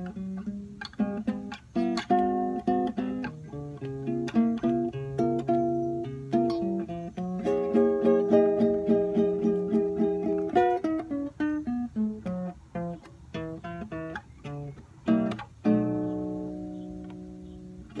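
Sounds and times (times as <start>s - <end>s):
acoustic guitar playing blues: 0.0s - 18.0s.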